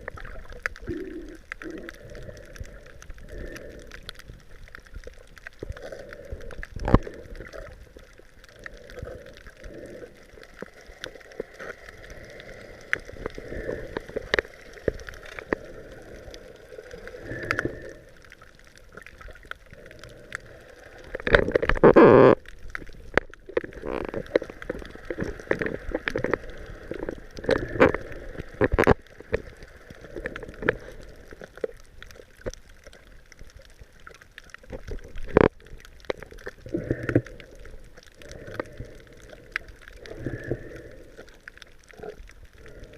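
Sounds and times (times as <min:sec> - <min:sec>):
sharp clicks underwater: 0:00.0 - 0:42.9
underwater gurgling and bubbling: 0:00.0 - 0:42.9.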